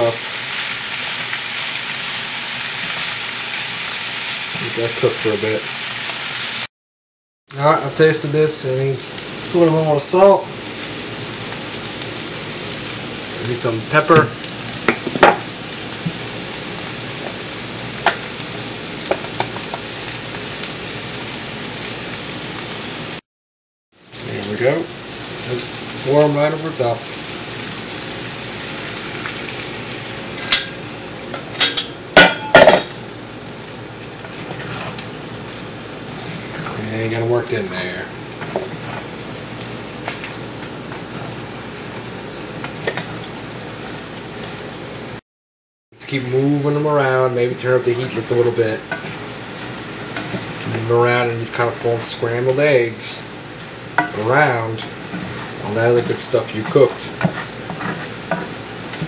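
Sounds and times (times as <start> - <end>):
food sizzling in a pan: 0.0 - 6.7, 7.6 - 23.2, 23.9 - 45.2, 46.0 - 59.0.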